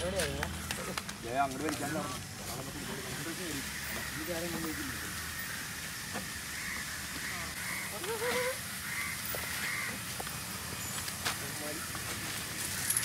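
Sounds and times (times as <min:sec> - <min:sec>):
steady outdoor hiss: 0:00.0 - 0:13.0
bird calling: 0:01.7 - 0:13.0.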